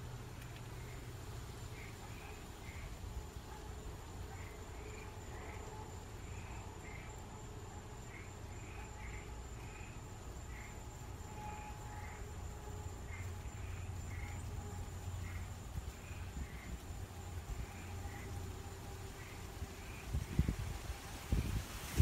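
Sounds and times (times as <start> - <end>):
thin steady high tone: 0.0 - 22.0.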